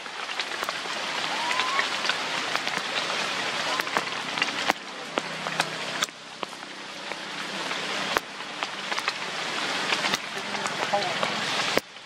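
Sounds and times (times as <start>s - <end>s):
rain falling on a lake: 0.0s - 12.0s
sharp taps of raindrops: 0.0s - 12.0s.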